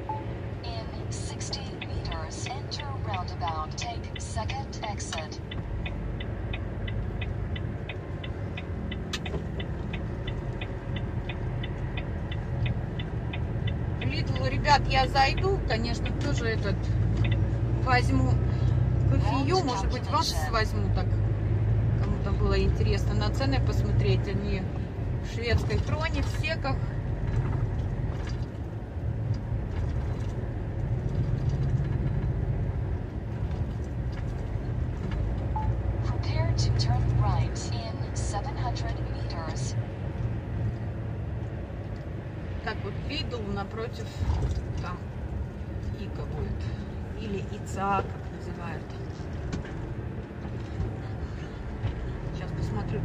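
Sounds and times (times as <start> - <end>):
road noise: 0.0 - 53.0
truck engine rumbling: 0.0 - 53.0
turn signal ticking: 0.0 - 53.0.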